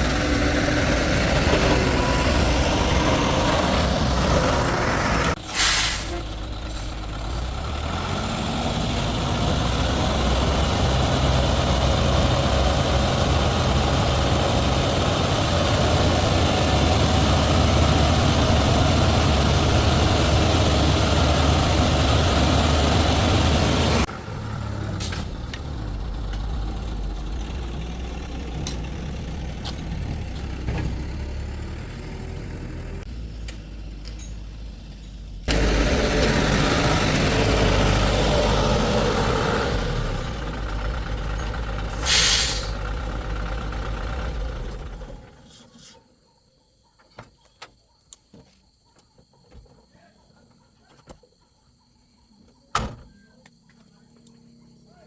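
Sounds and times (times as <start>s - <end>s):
heavy vehicle engine idling: 0.0s - 45.6s.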